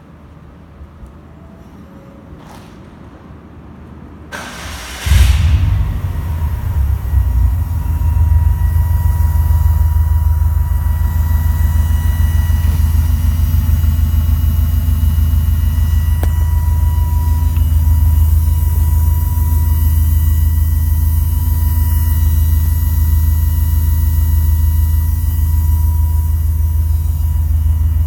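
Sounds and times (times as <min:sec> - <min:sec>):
electric fuel pump whining: 0:04.6 - 0:28.0.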